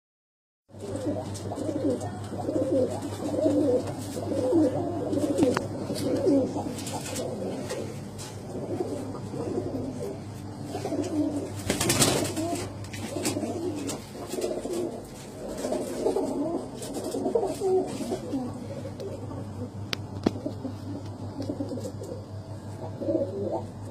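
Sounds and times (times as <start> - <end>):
pigeons cooing: 0.7 - 23.9.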